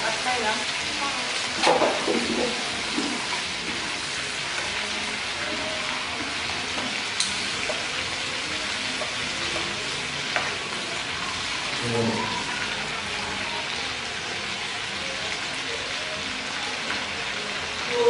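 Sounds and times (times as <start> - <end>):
oil sizzling in a wok: 0.0 - 18.0.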